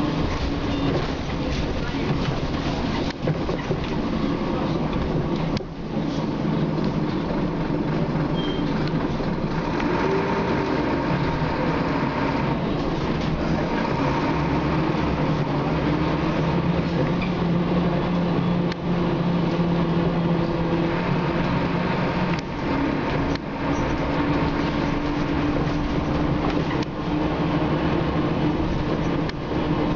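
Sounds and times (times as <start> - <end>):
bus diesel engine droning with whine: 0.0 - 29.9
road noise: 0.0 - 29.9.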